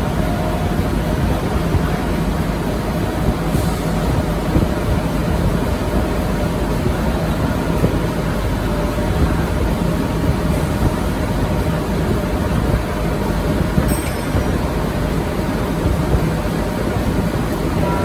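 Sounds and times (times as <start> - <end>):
constant hum: 0.0 - 18.0
printing press rumbling: 0.0 - 18.0.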